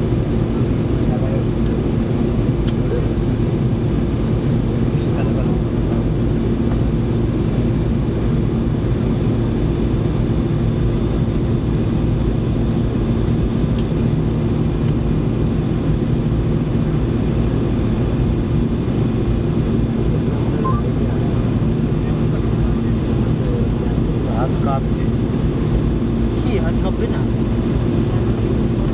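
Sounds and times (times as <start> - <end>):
constant low hum: 0.0 - 28.9
engine and airflow roar: 0.0 - 28.9.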